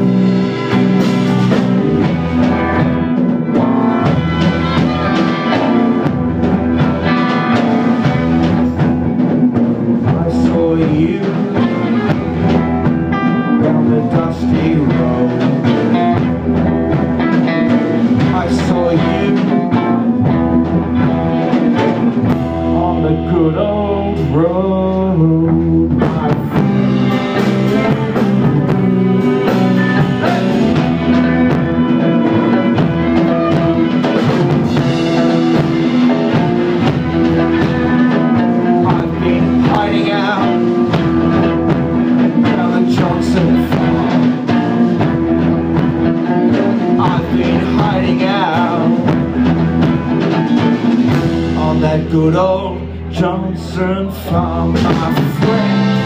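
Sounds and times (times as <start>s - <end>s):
live blues-rock band: 0.0s - 56.0s
person singing: 9.8s - 56.0s.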